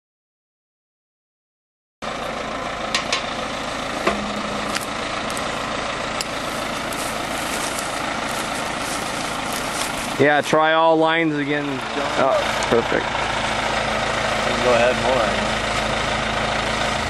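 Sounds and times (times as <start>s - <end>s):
heavy diesel machinery running: 2.0s - 17.0s.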